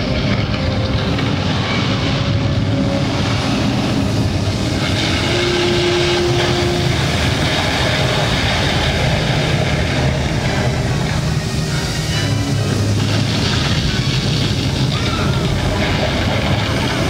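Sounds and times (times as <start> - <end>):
loud rumbling over speakers: 0.0 - 17.0.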